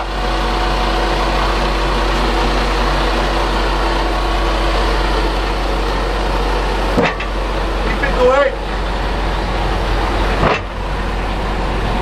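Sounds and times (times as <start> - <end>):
heavy diesel engine idling: 0.0 - 12.0.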